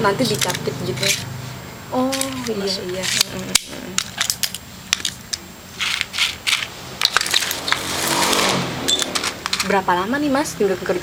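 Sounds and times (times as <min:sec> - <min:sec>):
small metal nails rattling: 0:00.2 - 0:01.3, 0:02.0 - 0:09.8.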